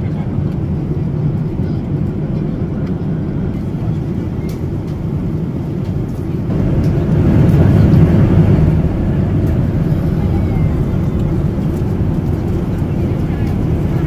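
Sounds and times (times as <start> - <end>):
vehicle rumbling in motion: 0.0 - 14.0.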